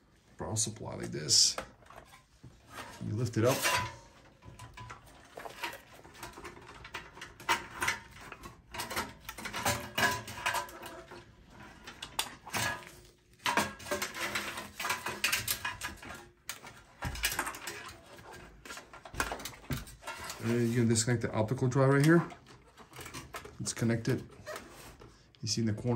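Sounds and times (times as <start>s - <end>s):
metal scraping and rattling: 1.5s - 25.1s.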